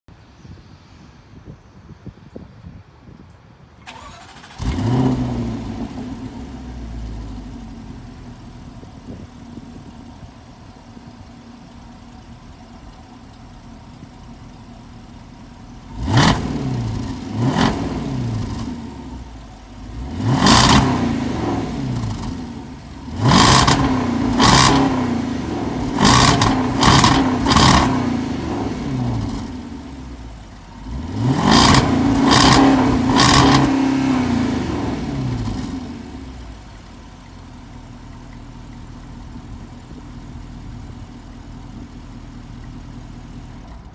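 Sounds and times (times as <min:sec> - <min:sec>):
car engine idling and revving: 0:03.8 - 0:43.9.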